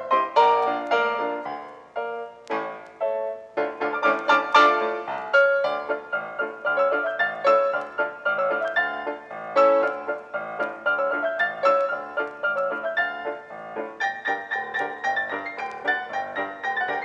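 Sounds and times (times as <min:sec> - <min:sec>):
piano playing notes: 0:00.0 - 0:17.0.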